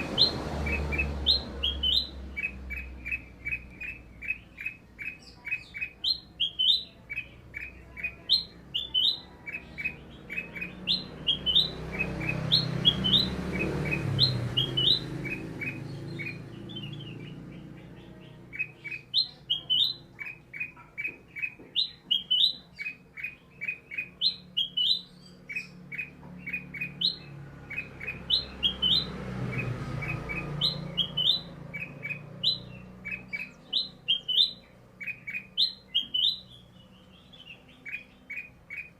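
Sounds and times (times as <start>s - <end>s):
bird chirping and whistling: 0.0s - 38.9s.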